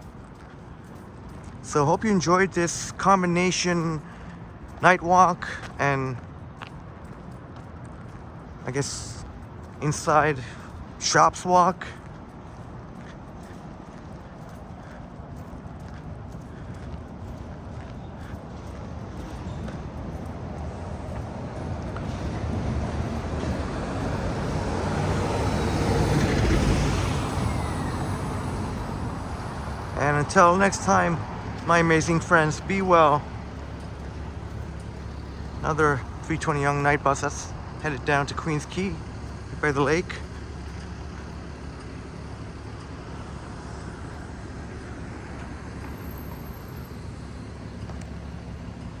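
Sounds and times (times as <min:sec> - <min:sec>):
bus engine: 0:00.0 - 0:49.0
road traffic rumble: 0:00.0 - 0:49.0
vehicle passing: 0:00.0 - 0:49.0.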